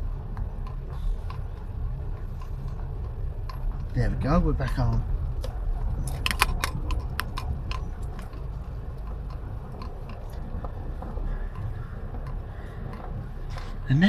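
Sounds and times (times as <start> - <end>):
car rumbling slowly: 0.0 - 14.0
sharp clicks and crunches: 0.3 - 13.8.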